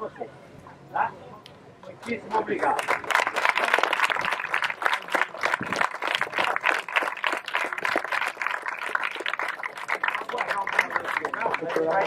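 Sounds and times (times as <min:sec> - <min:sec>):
crowd of children clapping: 0:02.0 - 0:12.0.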